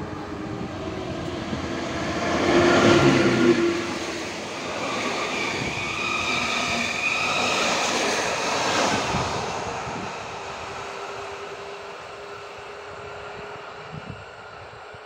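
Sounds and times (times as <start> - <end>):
train coaches rolling on rails: 0.0 - 15.0.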